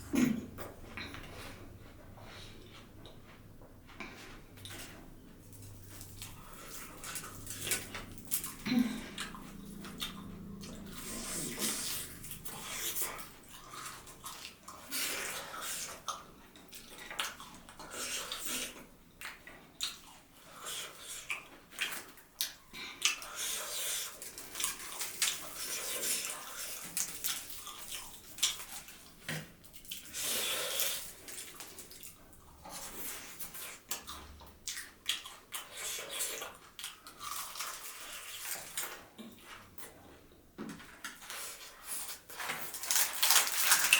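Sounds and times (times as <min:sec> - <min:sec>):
wet chewing and mouth sounds: 0:00.0 - 0:43.9.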